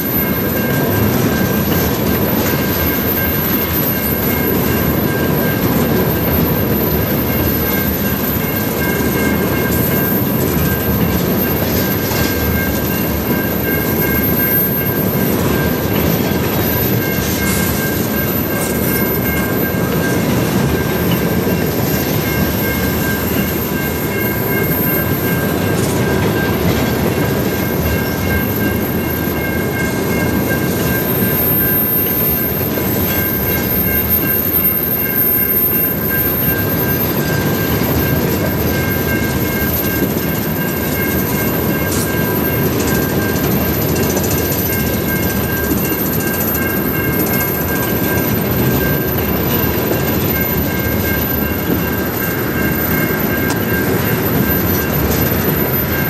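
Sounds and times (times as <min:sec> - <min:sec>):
high-pitched ringing tone: 0:00.0 - 0:56.0
train wheels rumbling on rails: 0:00.0 - 0:56.0.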